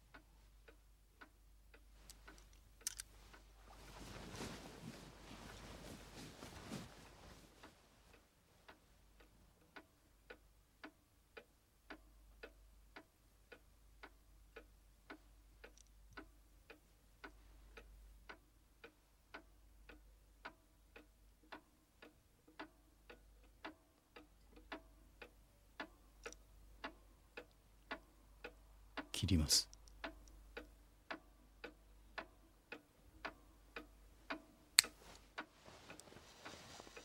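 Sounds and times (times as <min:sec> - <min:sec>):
faint timer ticking: 0:00.0 - 0:37.0.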